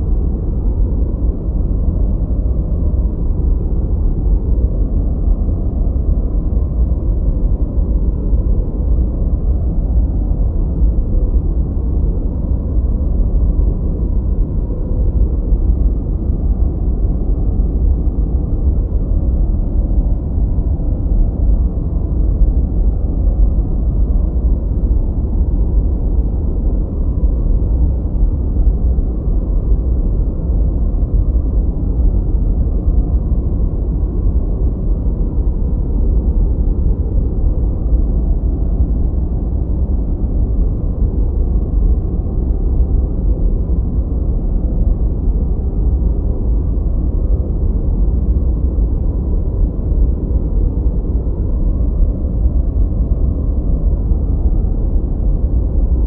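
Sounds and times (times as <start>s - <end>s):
muffled white noise: 0.0s - 56.0s.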